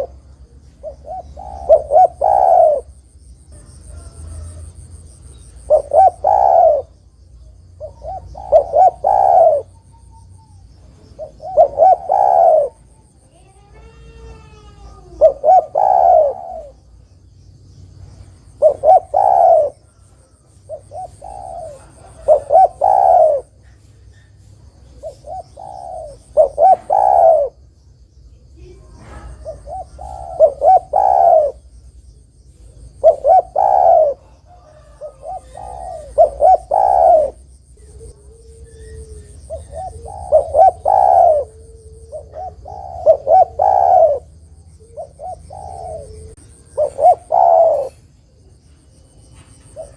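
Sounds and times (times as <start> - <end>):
dove cooing: 0.0 - 16.9, 18.4 - 27.6, 28.6 - 31.7, 32.5 - 49.9.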